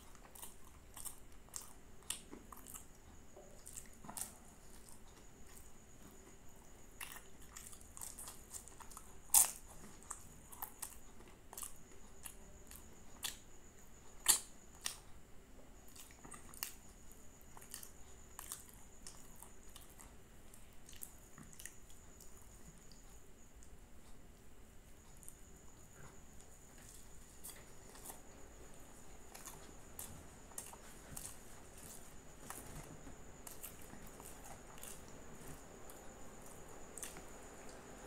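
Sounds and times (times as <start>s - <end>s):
crunchy chewing: 0.0s - 15.2s, 15.8s - 24.2s, 24.8s - 38.0s.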